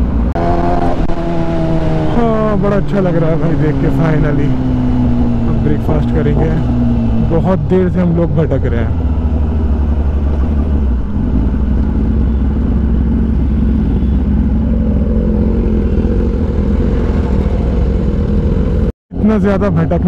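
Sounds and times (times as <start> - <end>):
motorcycle engine running at low revs: 0.0 - 18.9.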